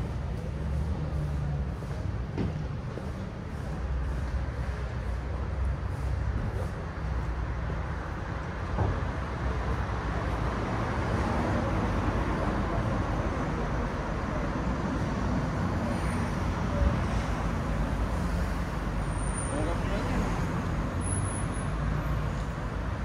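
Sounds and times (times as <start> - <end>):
city traffic noise: 0.0 - 23.0.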